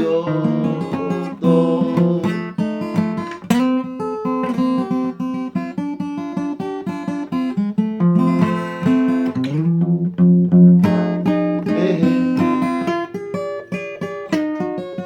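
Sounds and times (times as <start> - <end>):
acoustic blues guitar: 0.0 - 15.0.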